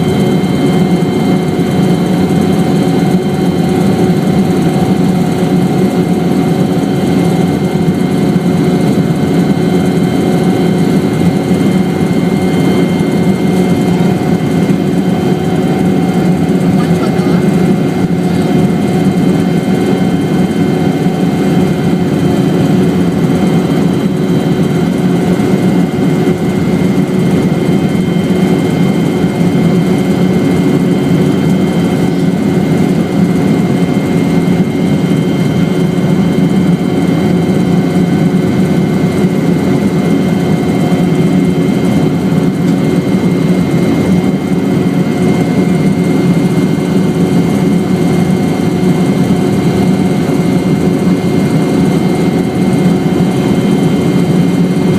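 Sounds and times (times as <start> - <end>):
helicopter drone with whine: 0.0 - 54.9.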